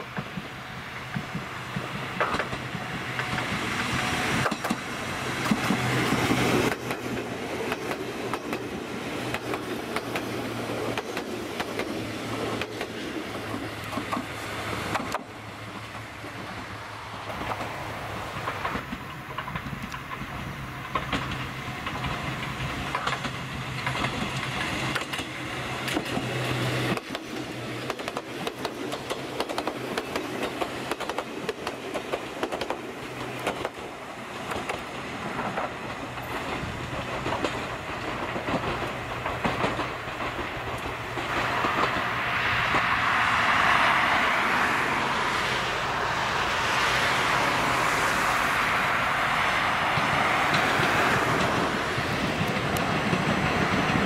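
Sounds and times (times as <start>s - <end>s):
train wheels clicking over rail joints: 0.0s - 43.8s, 46.7s - 54.0s
train hum: 0.0s - 54.0s.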